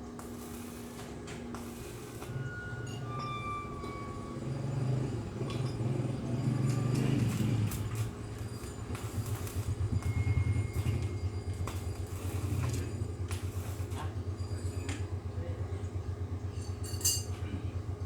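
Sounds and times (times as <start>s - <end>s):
pulsing motor hum: 0.0s - 16.6s.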